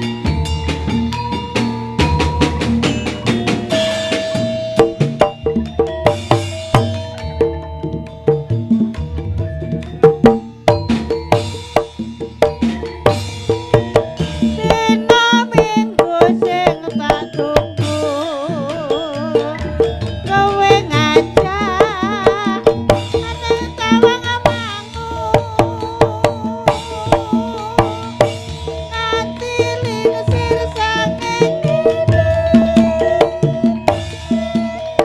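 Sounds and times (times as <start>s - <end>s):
metallophone notes: 0.0s - 35.0s
rapid hand drums: 0.0s - 35.0s
wavering vibrato melody: 0.0s - 35.0s.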